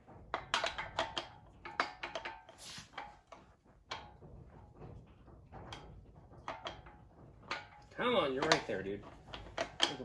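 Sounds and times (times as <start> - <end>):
metallic clinks and knocks: 0.0 - 10.0.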